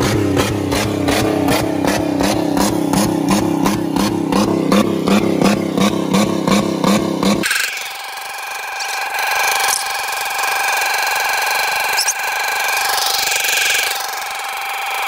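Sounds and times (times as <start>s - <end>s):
car engine revving at full throttle: 0.0s - 12.1s.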